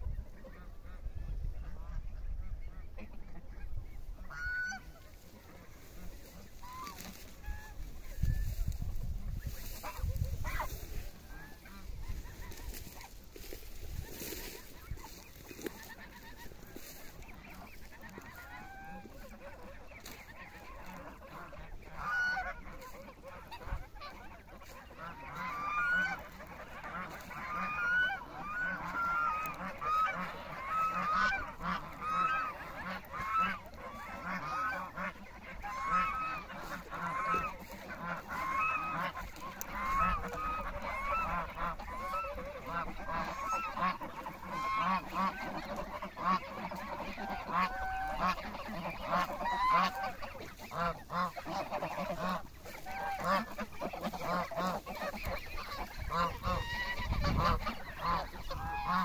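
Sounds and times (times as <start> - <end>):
geese honking: 0.0 - 59.0.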